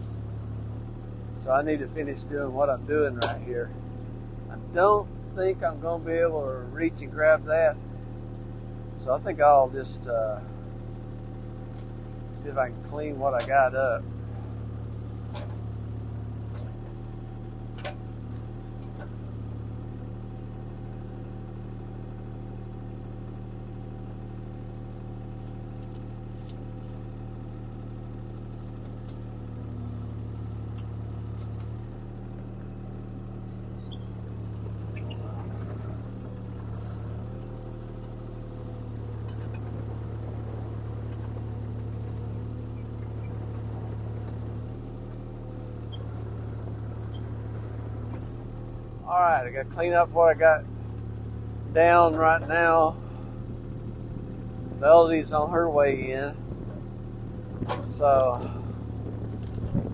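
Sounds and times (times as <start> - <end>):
excavator diesel engine humming: 0.0 - 59.9.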